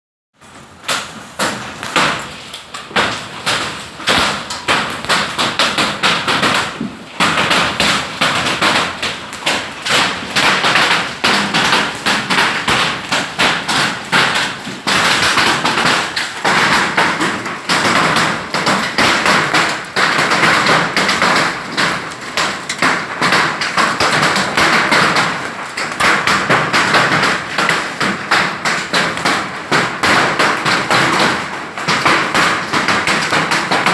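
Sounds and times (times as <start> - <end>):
hailstones rattling: 0.5 - 33.9.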